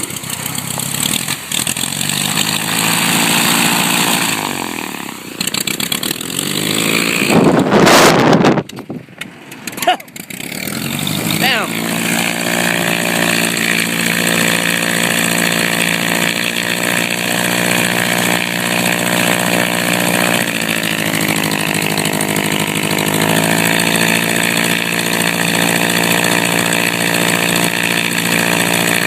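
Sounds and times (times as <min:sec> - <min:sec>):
light aircraft engine and propeller: 0:00.0 - 0:29.0.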